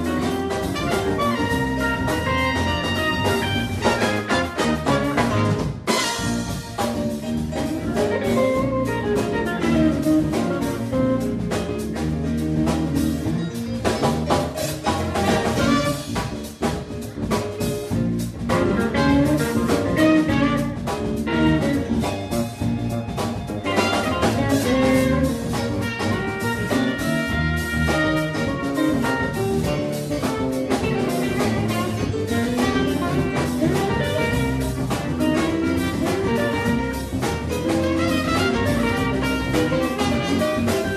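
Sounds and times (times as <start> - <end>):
trumpet lead: 0.0 - 13.5, 14.9 - 16.5, 18.5 - 22.8, 23.6 - 40.9
live band playing: 0.0 - 40.9.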